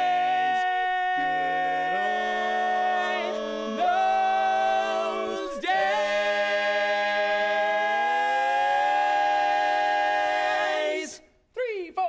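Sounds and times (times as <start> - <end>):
a cappella vocal quartet singing: 0.0 - 11.3.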